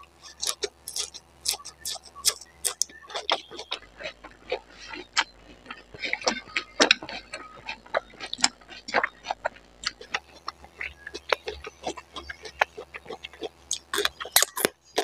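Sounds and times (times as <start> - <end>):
chewing and lip-smacking: 0.0 - 15.0
wet mouth clicks: 0.2 - 15.0.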